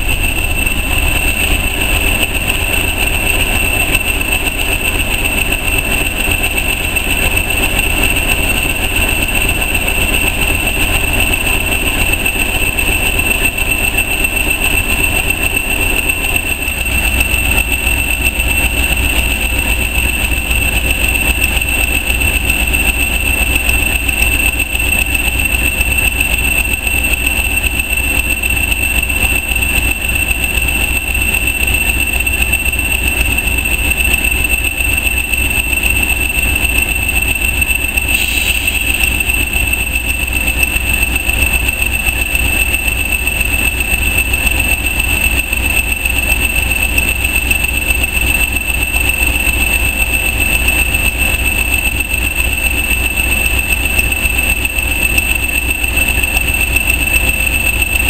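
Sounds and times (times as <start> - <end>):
constant high-pitched tone: 0.0 - 58.0
railway coaches rolling rumble: 0.0 - 58.0.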